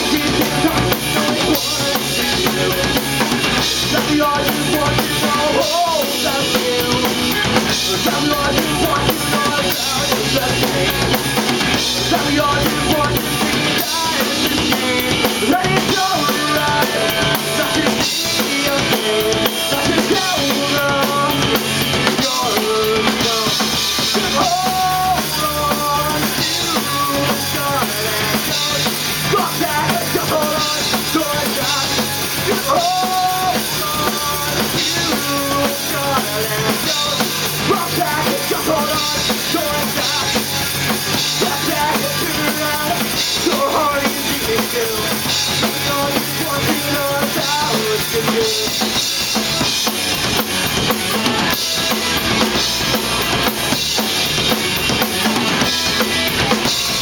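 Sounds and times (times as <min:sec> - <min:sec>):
bass guitar: 0:00.0 - 0:57.0
drum kit: 0:00.0 - 0:57.0
electric guitar melody: 0:00.0 - 0:57.0.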